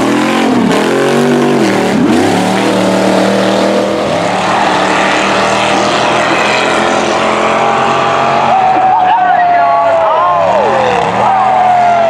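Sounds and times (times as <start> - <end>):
truck engine running hard: 0.0 - 12.0
tyres churning dirt: 0.0 - 12.0.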